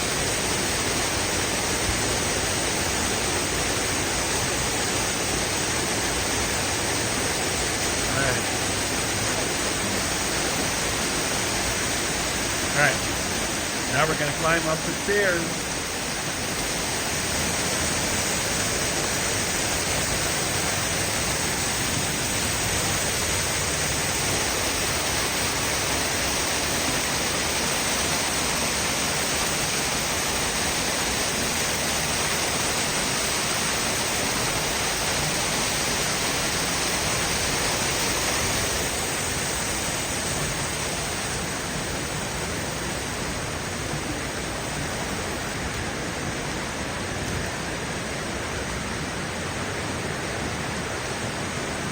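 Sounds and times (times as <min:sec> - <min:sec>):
water rushing over falls: 0:00.0 - 0:51.9.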